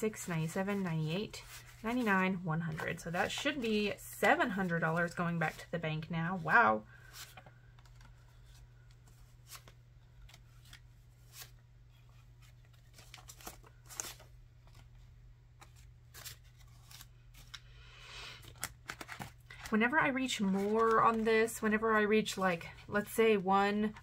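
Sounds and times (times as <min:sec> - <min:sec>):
banknotes rustling: 0:00.0 - 0:24.0.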